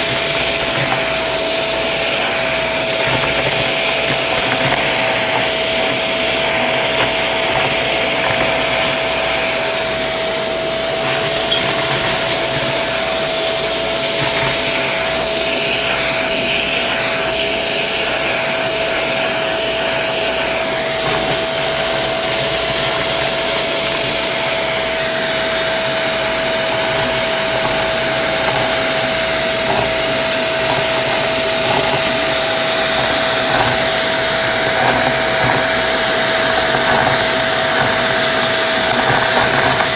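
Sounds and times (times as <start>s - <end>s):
vacuum motor whine: 0.0s - 39.9s.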